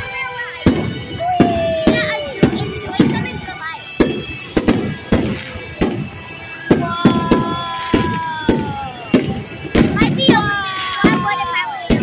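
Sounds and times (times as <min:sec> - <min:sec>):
fireworks bangs echoing: 0:00.6 - 0:12.0.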